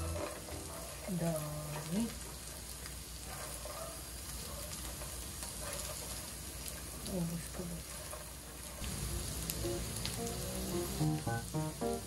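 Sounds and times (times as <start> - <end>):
spatula turning food: 0.0 - 12.0
tofu and vegetables sizzling in pan: 0.0 - 12.0.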